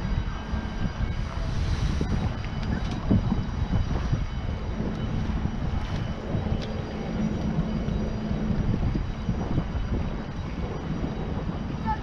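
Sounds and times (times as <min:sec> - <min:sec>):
ship diesel engines rumbling: 0:00.0 - 0:12.0.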